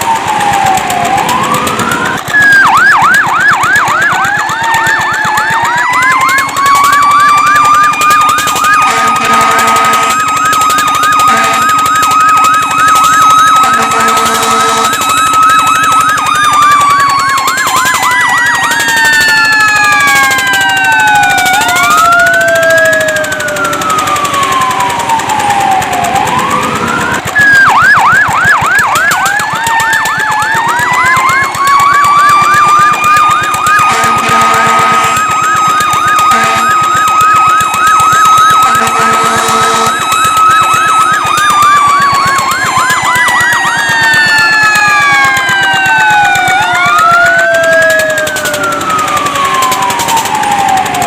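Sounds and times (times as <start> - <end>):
fast siren yelp: 0.0 - 51.0
fire truck siren wailing: 0.0 - 51.0.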